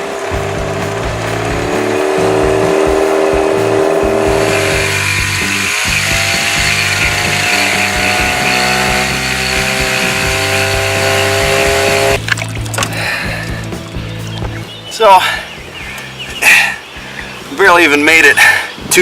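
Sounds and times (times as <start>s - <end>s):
boat outboard motor running: 0.0s - 17.6s.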